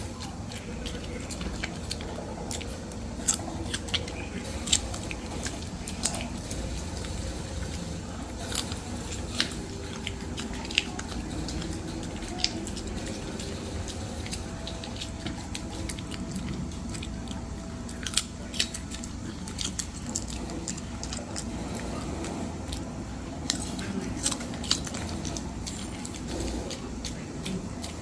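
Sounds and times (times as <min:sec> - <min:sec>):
dog crunching carrot: 0:00.0 - 0:28.0.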